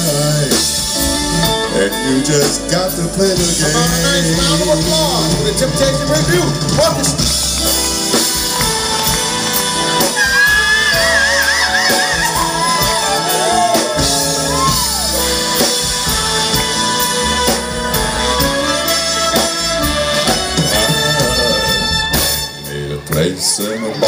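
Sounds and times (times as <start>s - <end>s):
soul band playing a slow ballad: 0.0s - 24.0s.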